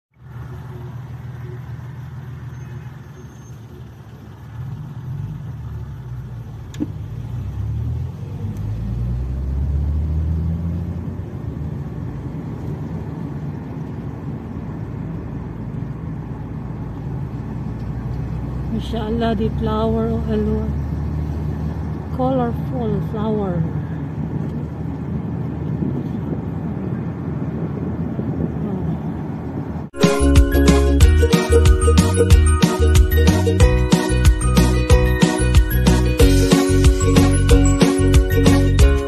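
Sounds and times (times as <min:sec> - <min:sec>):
car engine and road rumble: 0:00.1 - 0:39.0.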